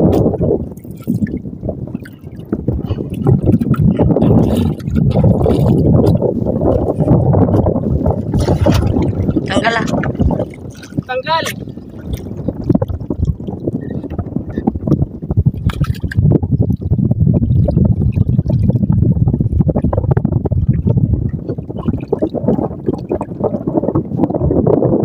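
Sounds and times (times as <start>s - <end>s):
water sloshing against boat hull: 0.0s - 24.3s.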